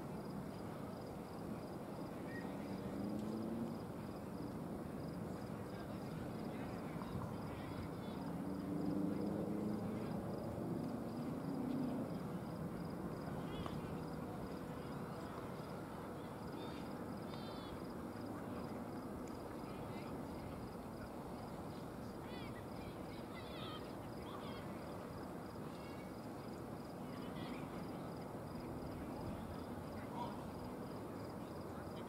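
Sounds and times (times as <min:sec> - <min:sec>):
indistinct crowd voices: 0:01.4 - 0:32.0.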